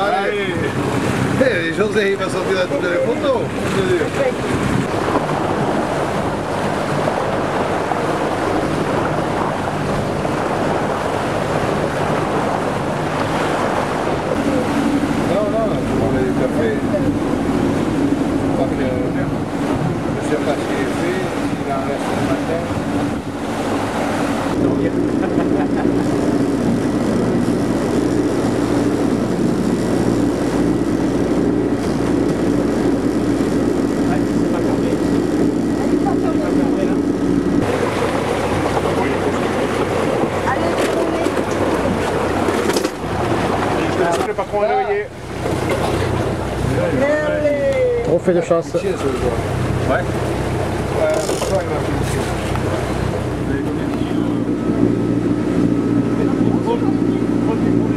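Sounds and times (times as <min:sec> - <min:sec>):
boat engine running: 0:00.0 - 0:57.9
wake rushing along hull: 0:00.0 - 0:57.9
wind on microphone: 0:00.0 - 0:57.9.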